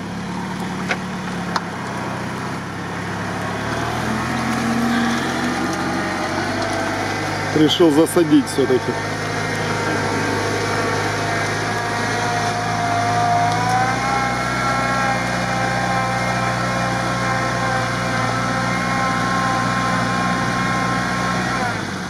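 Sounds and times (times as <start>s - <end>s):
off-road vehicle engine under load: 0.0s - 22.0s.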